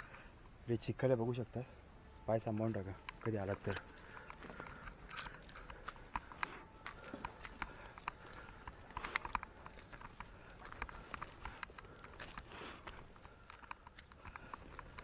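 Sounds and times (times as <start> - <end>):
footsteps on rocky path: 2.6 - 15.0.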